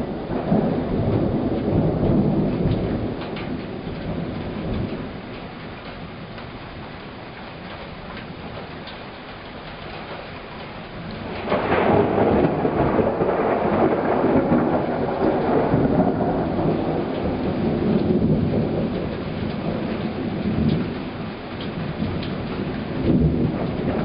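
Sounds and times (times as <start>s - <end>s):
heavy rain: 0.0s - 24.0s
thunder crack and rumble: 0.0s - 24.0s.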